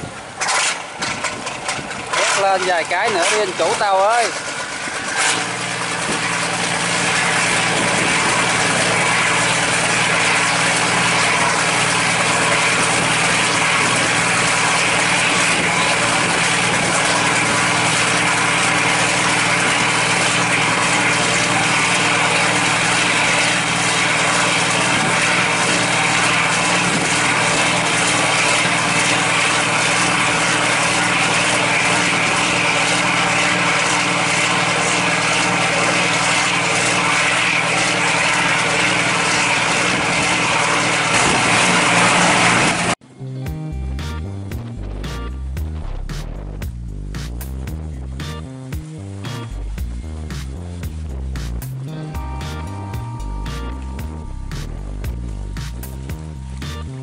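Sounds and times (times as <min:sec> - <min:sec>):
boat diesel engine droning: 0:00.0 - 0:57.0.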